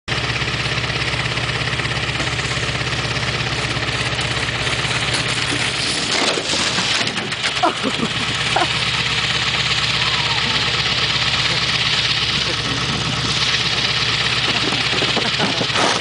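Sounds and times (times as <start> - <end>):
pickup truck engine idling: 0.1 - 16.0.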